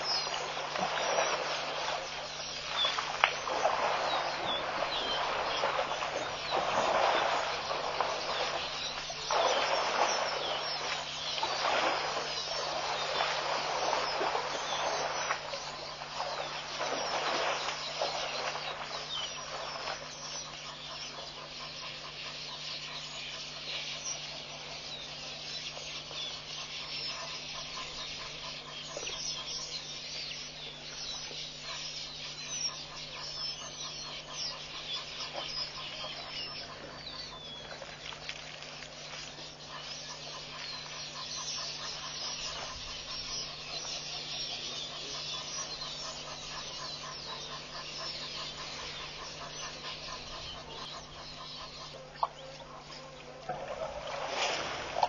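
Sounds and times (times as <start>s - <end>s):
birds chirping and chattering: 0.0s - 55.0s
steady low hum: 0.0s - 55.0s.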